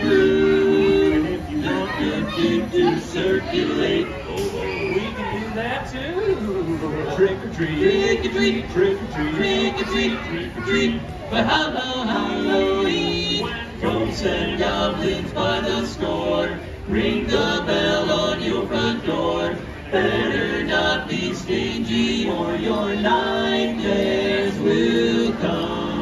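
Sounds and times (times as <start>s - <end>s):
male voices singing in harmony: 0.0s - 5.4s, 6.6s - 26.0s.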